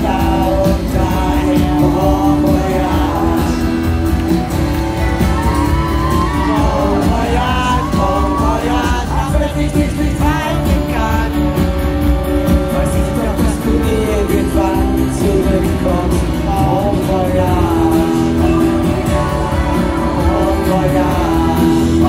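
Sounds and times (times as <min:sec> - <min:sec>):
live pop-rock band: 0:00.0 - 0:22.0.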